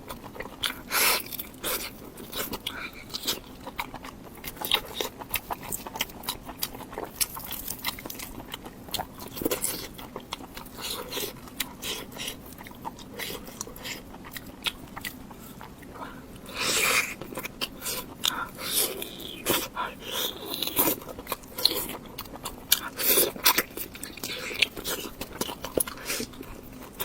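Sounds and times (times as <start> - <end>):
crunchy food chewing: 0.0 - 27.0.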